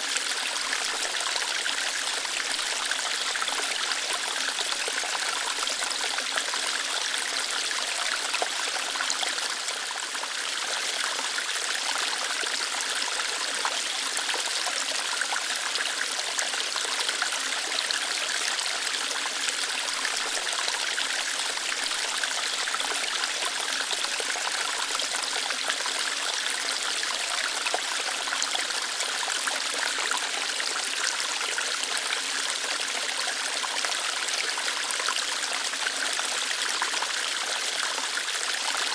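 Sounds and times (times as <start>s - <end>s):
small waterfall splashing over rocks: 0.0s - 38.9s.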